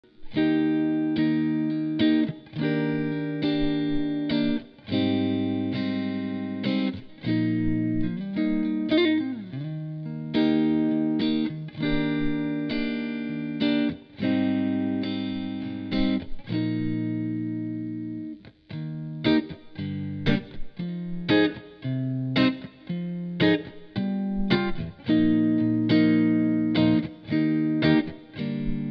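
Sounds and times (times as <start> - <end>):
electric guitar chords strummed: 0.0 - 28.9.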